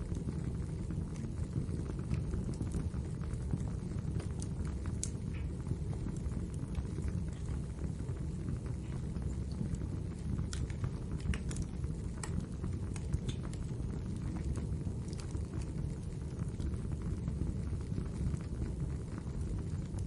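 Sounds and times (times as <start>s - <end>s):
fire crackles and pops: 0.0s - 20.0s
low rumble of flames: 0.0s - 20.0s.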